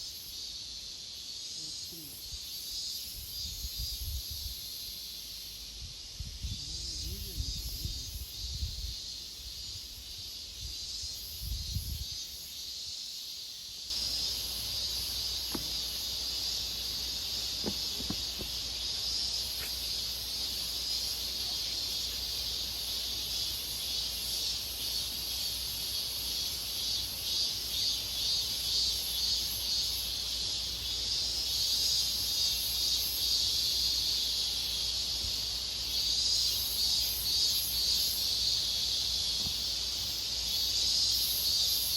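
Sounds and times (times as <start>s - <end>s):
insects buzzing drone: 0.0s - 41.9s.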